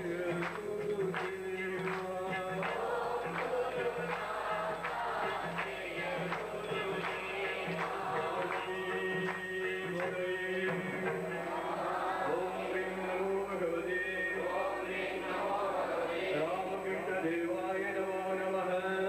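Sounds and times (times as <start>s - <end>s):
group singing devotional song: 0.0s - 19.0s.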